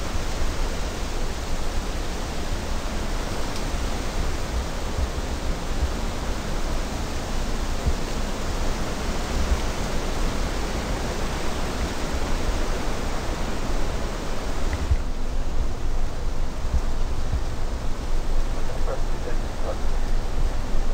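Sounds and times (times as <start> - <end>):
rushing outdoor noise with rumble: 0.0 - 20.9.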